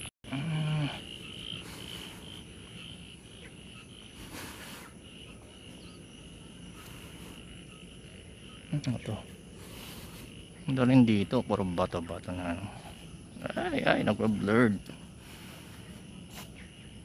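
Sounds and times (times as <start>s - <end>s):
insects and frogs trilling: 0.0s - 17.0s.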